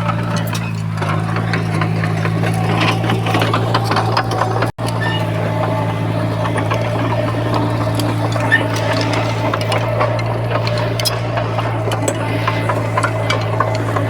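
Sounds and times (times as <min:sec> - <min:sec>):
clanks and knocks: 0:00.0 - 0:14.0
earthmoving machine engine running: 0:00.0 - 0:14.0.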